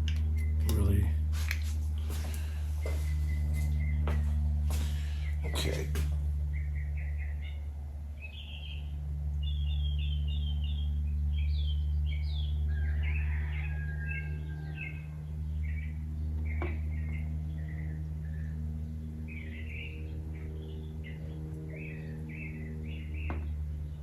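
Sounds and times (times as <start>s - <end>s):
steady low hum: 0.0s - 24.0s
songbirds chirping and singing: 0.2s - 24.0s.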